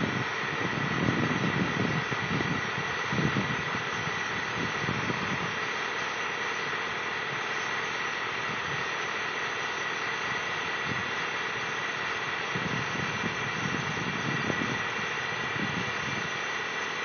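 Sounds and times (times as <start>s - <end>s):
diesel engine running: 0.0s - 17.0s
thin steady whine: 0.0s - 17.0s.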